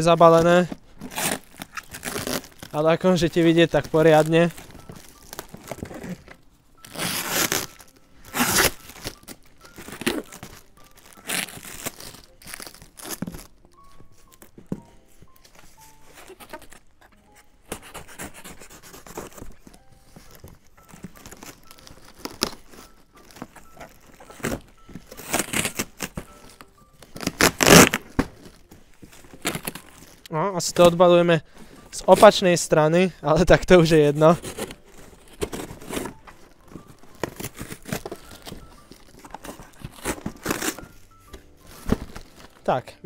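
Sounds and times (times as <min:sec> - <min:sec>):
packaging tearing and crinkling: 0:00.0 - 0:14.5, 0:15.8 - 0:30.3, 0:34.0 - 0:42.8.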